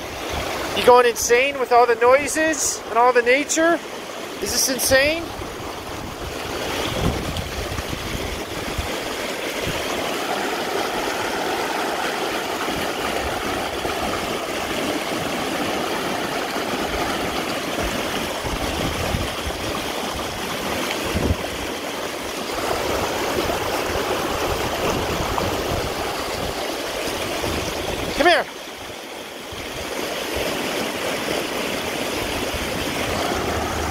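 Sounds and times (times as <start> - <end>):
river rushing over rocks: 0.0 - 33.9.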